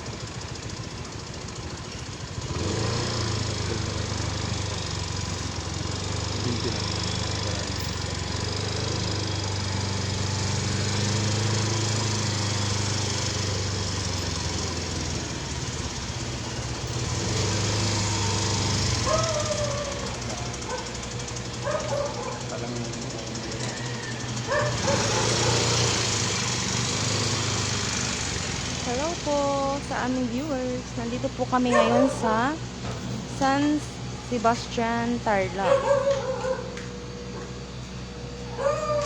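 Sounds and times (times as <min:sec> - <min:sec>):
vehicle engine droning: 0:00.0 - 0:39.0.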